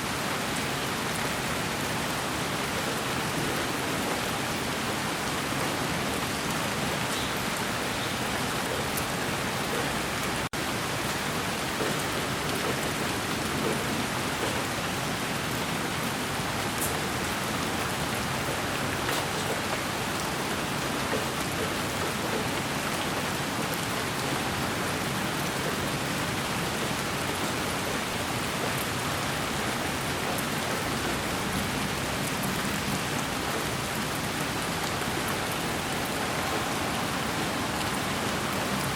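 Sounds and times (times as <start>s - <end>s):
rain-like white noise hiss: 0.0s - 38.9s.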